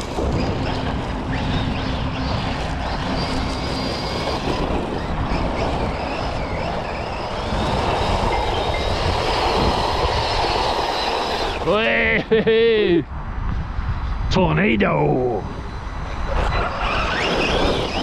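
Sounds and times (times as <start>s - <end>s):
electric motor whining: 0.0s - 12.2s, 15.3s - 18.0s
drivetrain and tyres rumbling: 0.0s - 18.0s.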